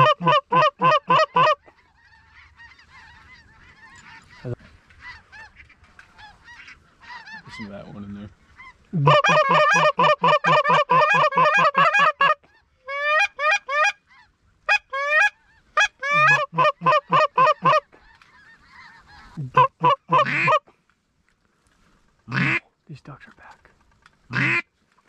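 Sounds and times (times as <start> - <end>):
goose honks and clucks: 0.0 - 20.7, 22.3 - 22.7, 24.3 - 24.7.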